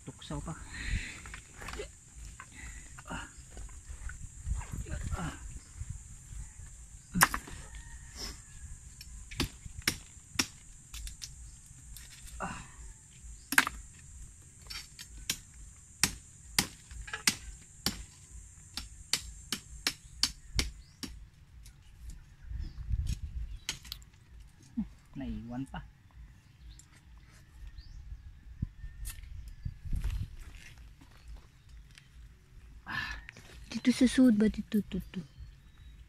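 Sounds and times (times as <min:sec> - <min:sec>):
steady high-pitched hiss: 0:00.0 - 0:36.0.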